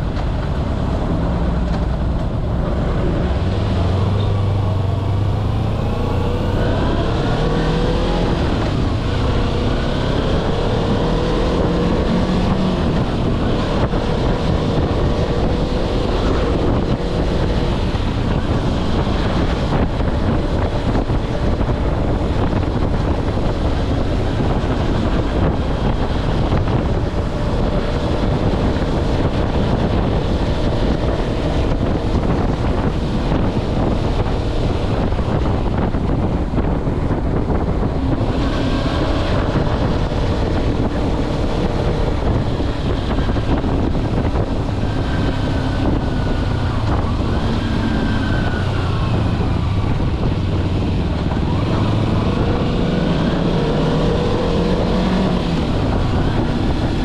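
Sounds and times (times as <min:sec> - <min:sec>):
motorcycle engine accelerating: 0:00.0 - 0:57.0
wind noise on microphone: 0:00.0 - 0:57.0.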